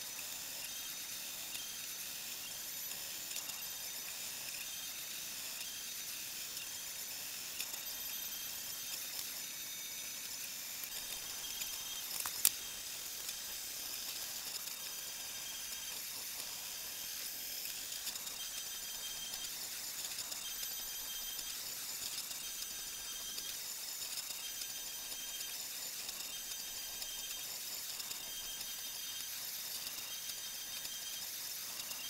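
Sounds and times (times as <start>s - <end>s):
printer fan hiss: 0.0s - 32.0s
stepper motor whines: 0.0s - 32.0s.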